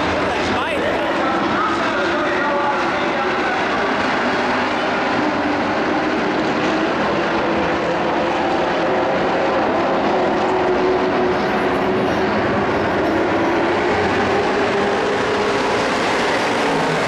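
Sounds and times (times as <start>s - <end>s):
race truck engines at full throttle: 0.0s - 17.0s.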